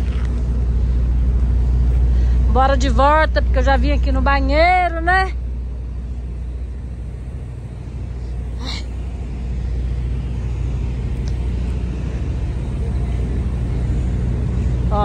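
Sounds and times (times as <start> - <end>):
generators droning: 0.0 - 15.0.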